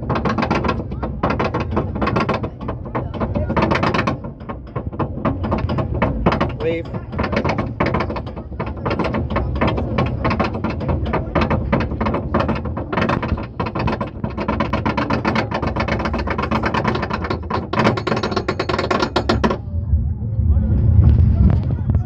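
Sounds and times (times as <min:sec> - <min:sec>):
roller coaster ratchet clacking: 0:00.0 - 0:19.7.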